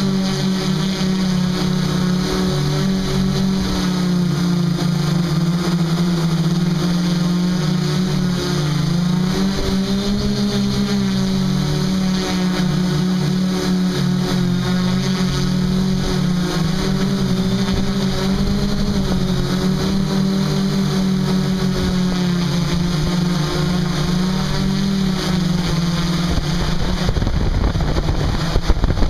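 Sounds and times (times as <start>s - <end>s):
multicopter rotors humming: 0.0s - 29.0s
rough rushing noise: 0.0s - 29.0s.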